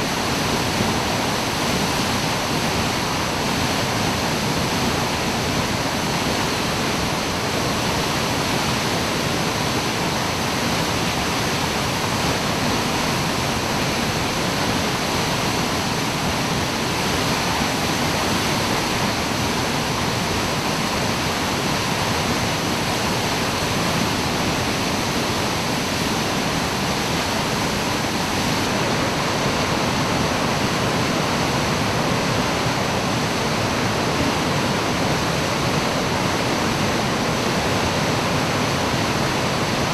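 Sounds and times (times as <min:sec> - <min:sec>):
waterfall roaring into pool: 0:00.0 - 0:39.9.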